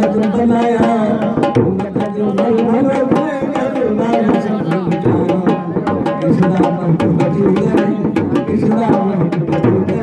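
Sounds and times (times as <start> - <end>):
hand drum beating: 0.0 - 10.0
man singing: 0.0 - 10.0.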